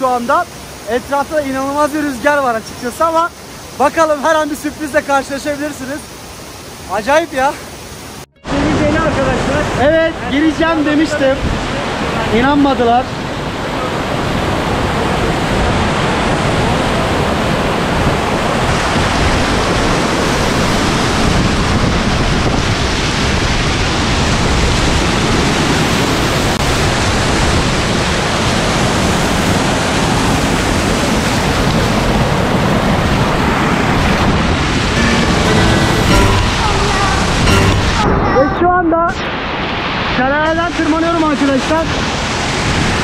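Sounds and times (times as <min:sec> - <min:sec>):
waterfall rushing and splashing: 0:00.0 - 0:38.4, 0:39.3 - 0:43.0.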